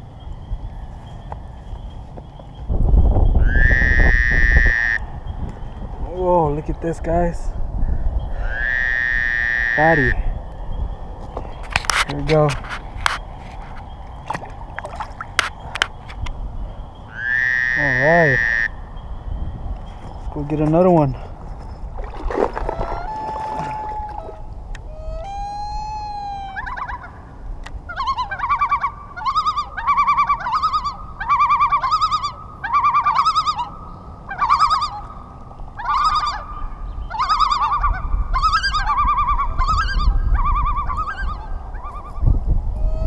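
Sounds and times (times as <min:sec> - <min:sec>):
bird calling: 0:00.0 - 0:07.2, 0:07.8 - 0:43.0.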